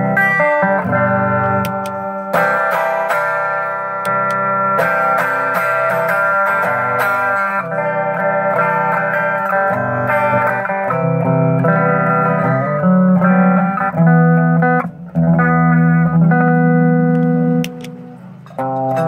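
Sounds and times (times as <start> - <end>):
electric guitar sustained notes: 0.0 - 19.0.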